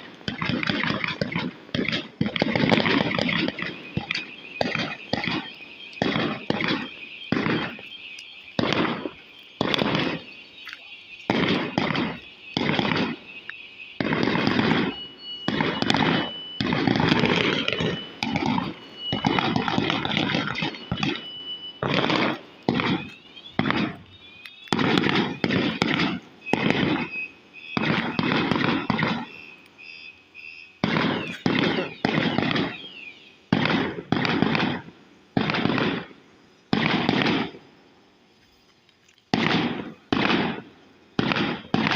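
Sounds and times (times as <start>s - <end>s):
fireworks exploding: 0.0s - 38.0s, 39.3s - 41.9s.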